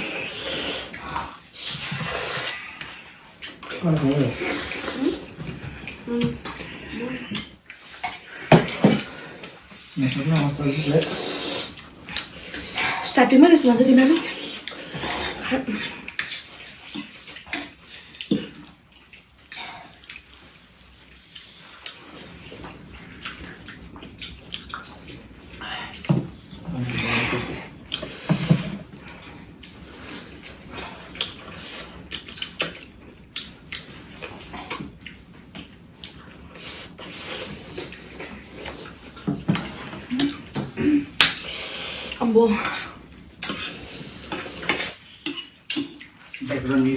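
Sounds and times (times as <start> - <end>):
wet chewing and smacking: 0.0 - 13.2, 13.8 - 46.9.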